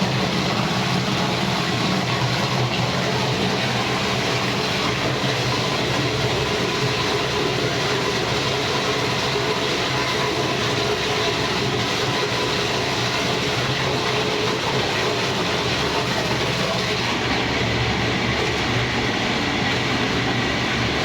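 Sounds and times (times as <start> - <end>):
electric meat grinder running: 0.0 - 21.0.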